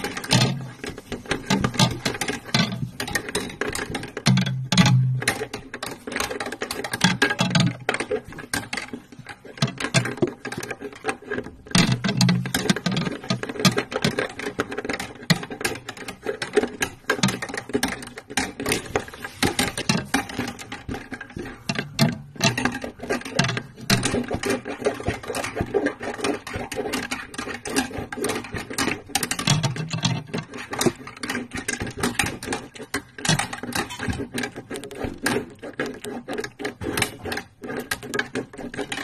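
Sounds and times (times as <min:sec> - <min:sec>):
wire scraping inside plastic tube: 0:00.0 - 0:39.0.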